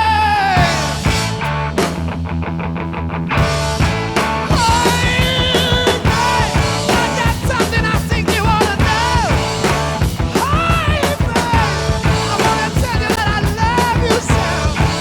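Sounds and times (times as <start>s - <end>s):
rock music with sliding melody: 0.0s - 15.0s.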